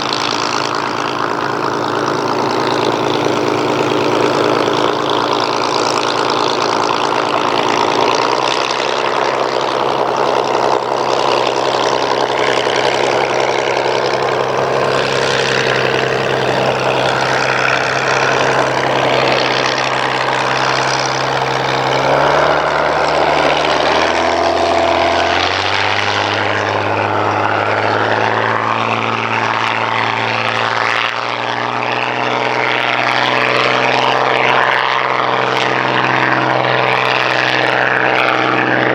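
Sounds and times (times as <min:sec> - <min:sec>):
piston aircraft engine running: 0:00.0 - 0:38.9.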